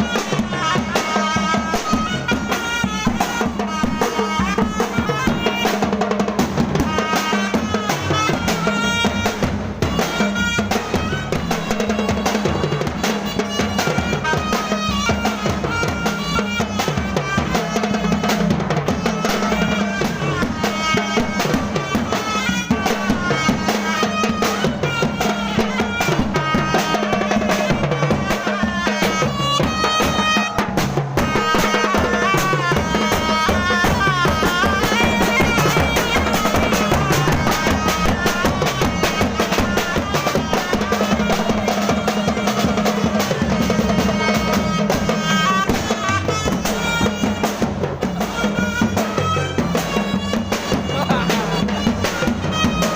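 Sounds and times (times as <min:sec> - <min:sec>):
continuous melody: 0:00.0 - 0:52.9
drums keeping steady beat: 0:00.0 - 0:52.9.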